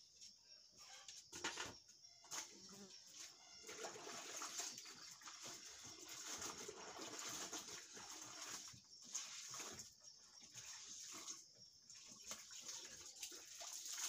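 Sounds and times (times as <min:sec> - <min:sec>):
water sloshing in a plastic bucket: 0:01.1 - 0:14.0.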